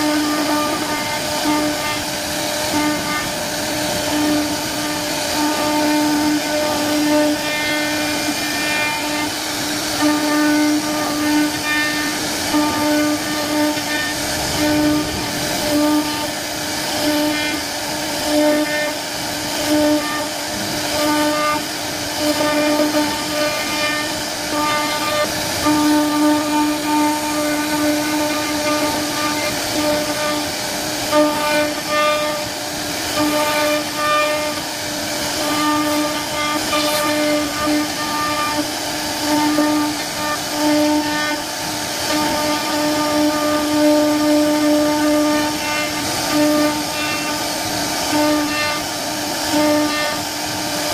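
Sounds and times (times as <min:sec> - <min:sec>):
hiss of wood cutting: 0:00.0 - 0:50.9
router spindle whine: 0:00.0 - 0:50.9.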